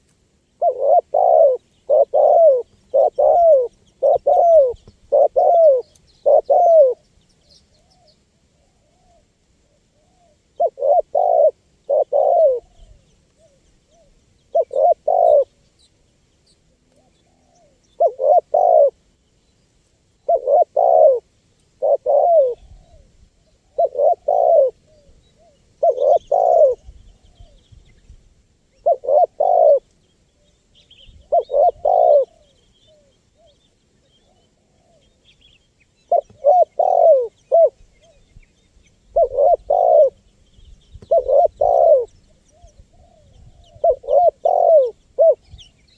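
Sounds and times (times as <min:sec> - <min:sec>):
dove cooing: 0:00.0 - 0:07.0, 0:07.8 - 0:15.6, 0:16.8 - 0:19.0, 0:20.2 - 0:27.6, 0:28.7 - 0:35.2, 0:36.0 - 0:38.3, 0:39.0 - 0:40.3, 0:41.0 - 0:45.8.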